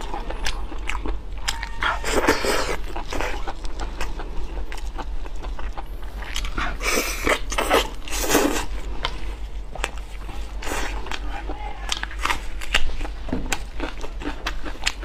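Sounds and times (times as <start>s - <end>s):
chewing meat: 0.0s - 15.0s.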